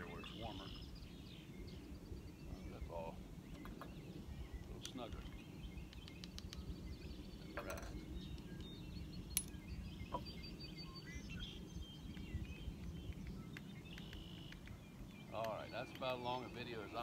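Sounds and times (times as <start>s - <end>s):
faint bird chirps: 0.0s - 17.0s
wind rumble on microphone: 0.0s - 17.0s.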